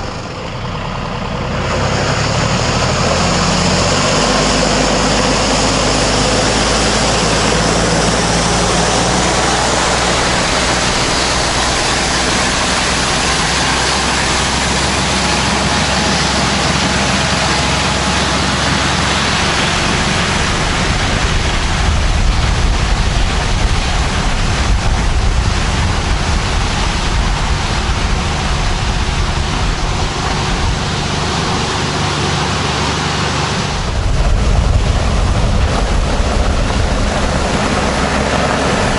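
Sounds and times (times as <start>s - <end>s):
loud dense hiss: 0.0s - 38.9s
tractor engine running: 0.0s - 38.9s.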